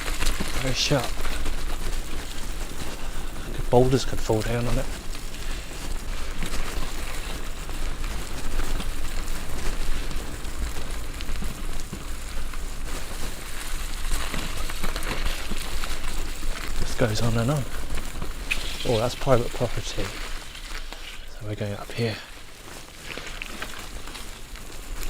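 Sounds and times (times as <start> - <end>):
bicycle tyres crackling over gravel: 0.0 - 25.0.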